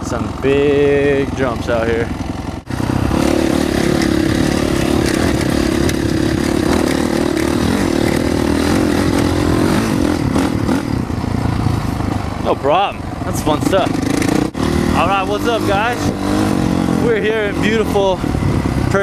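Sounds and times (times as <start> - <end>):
motocross bike engine running: 0.0 - 19.0.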